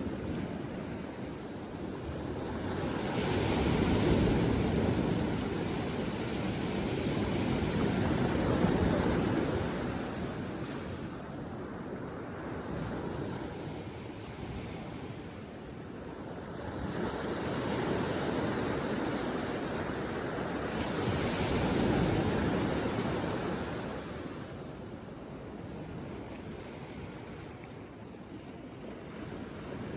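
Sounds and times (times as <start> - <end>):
ocean surf on a beach: 0.0 - 29.9.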